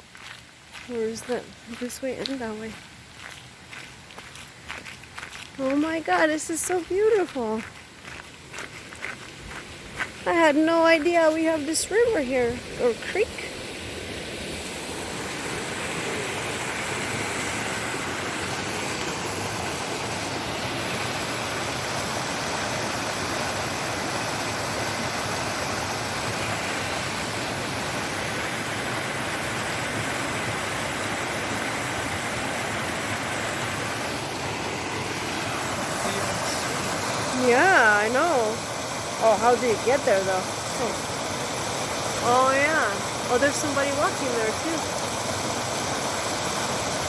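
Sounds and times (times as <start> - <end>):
creek water rushing: 0.0 - 47.0.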